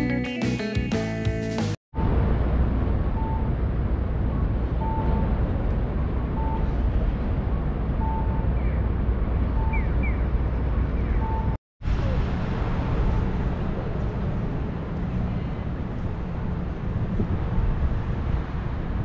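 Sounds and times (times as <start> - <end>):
road traffic rumble: 2.0 - 19.0.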